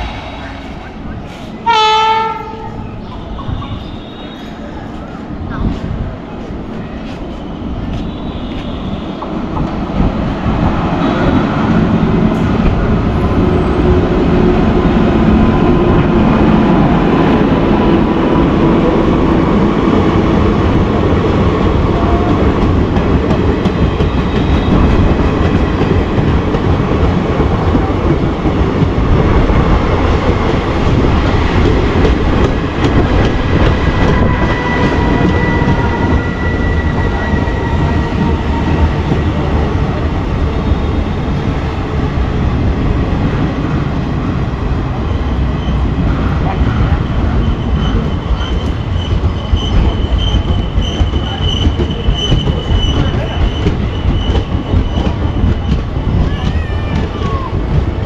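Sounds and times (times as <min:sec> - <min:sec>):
express train passing: 0:00.0 - 0:58.0.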